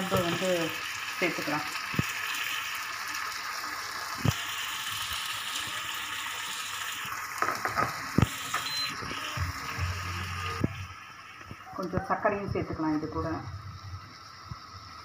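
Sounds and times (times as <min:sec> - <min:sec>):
tomato sauce sizzling and bubbling: 0:00.0 - 0:15.0.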